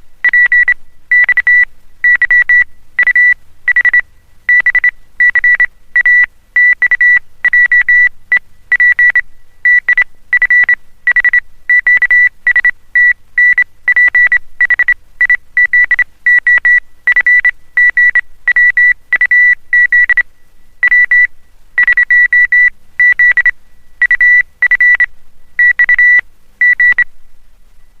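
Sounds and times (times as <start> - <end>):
morse code beeps: 0.3 - 8.1, 8.7 - 20.2, 20.8 - 27.1.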